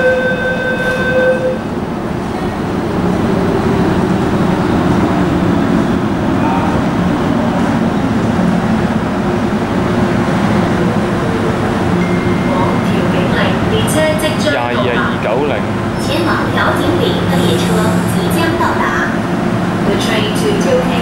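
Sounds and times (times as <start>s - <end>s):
train rumbling into platform: 0.0s - 21.0s.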